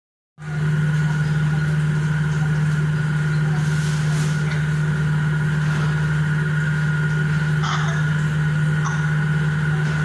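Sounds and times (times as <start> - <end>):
electric fan motor humming: 0.4 - 10.0.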